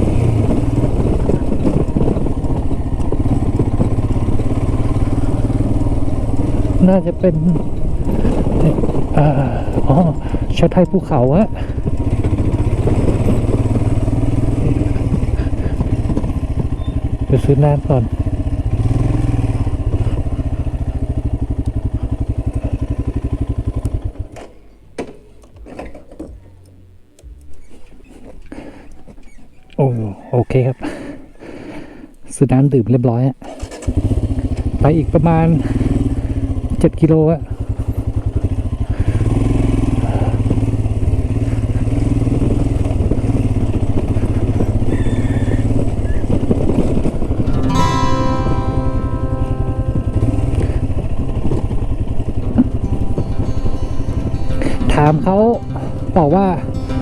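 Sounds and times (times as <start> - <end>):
motorcycle engine idling: 0.0 - 32.3, 33.4 - 57.0.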